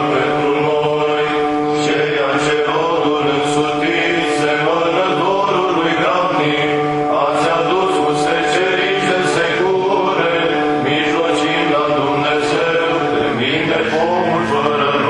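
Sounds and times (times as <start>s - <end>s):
church chant melody: 0.0s - 15.0s
held vocal drone: 0.0s - 15.0s.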